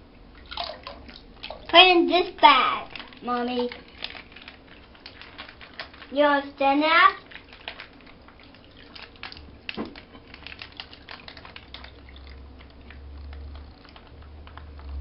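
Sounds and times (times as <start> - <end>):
slime trickling and dripping: 0.2 - 15.0.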